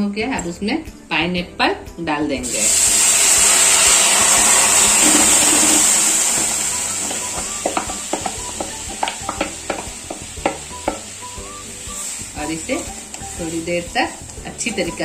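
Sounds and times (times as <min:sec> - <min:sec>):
pineapple sizzling in hot pan: 0:02.4 - 0:15.0.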